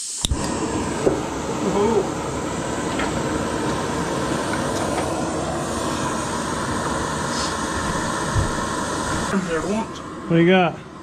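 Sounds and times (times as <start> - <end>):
gas camp stove burning: 0.0 - 11.0.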